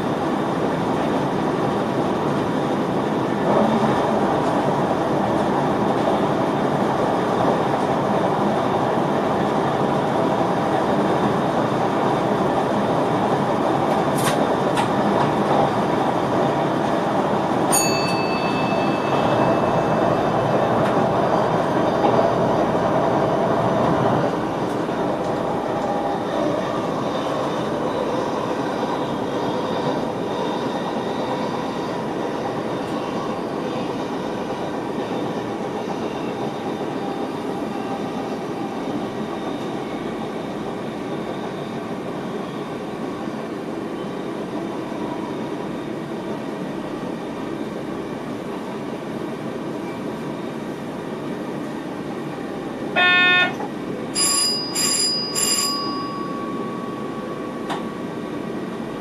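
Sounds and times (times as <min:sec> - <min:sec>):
electric train running noise: 0:00.0 - 0:59.0.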